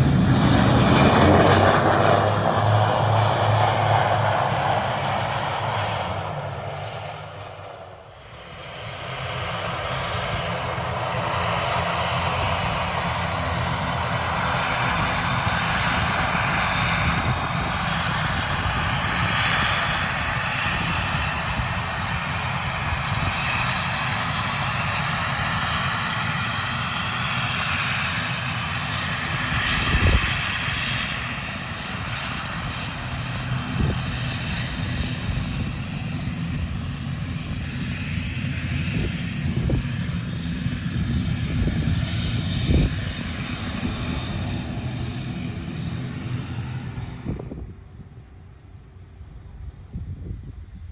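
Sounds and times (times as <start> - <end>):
airliner engines roaring: 0.0 - 50.9.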